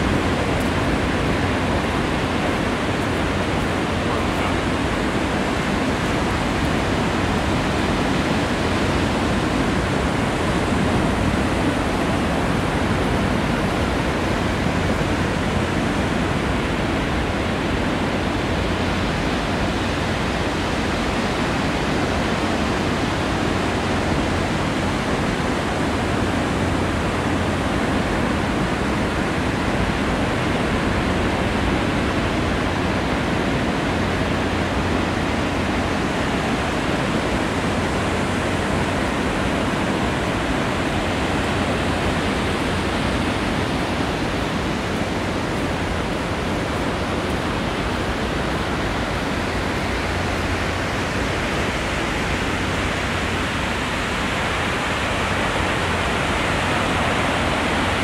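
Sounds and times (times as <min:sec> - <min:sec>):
ocean surf on beach: 0:00.0 - 0:58.0.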